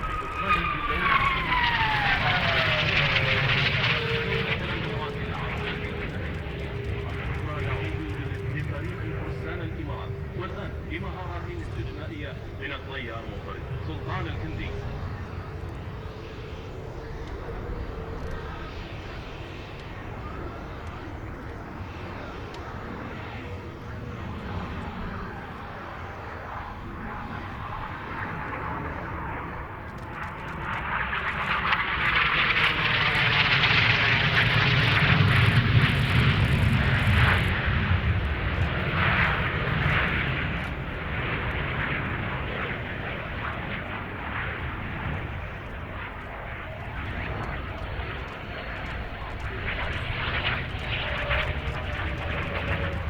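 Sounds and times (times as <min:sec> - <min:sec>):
jet aircraft flying past: 0:00.0 - 0:53.0.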